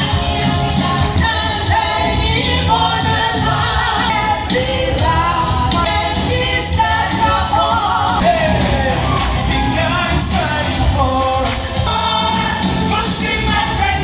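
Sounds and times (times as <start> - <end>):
amplified band accompaniment: 0.0 - 14.0
worship team singing: 0.0 - 14.0.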